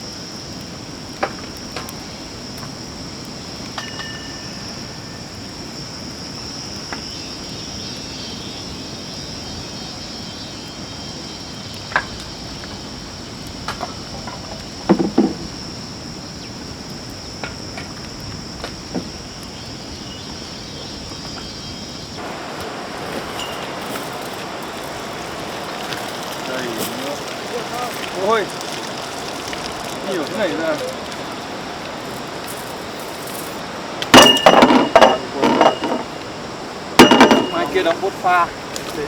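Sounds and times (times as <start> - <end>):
insect chirring: 0.0 - 39.0.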